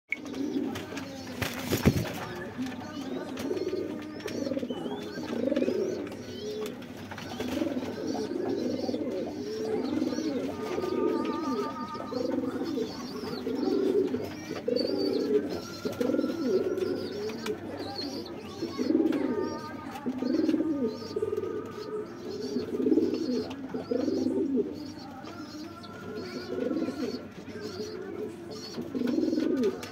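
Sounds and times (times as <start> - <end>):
pigeons cooing: 0.1 - 29.9.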